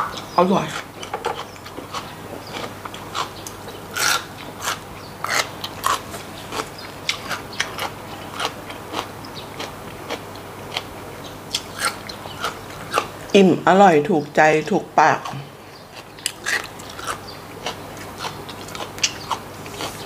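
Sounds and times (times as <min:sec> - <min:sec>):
chewing crunchy vegetable: 0:00.0 - 0:13.3, 0:15.2 - 0:20.0.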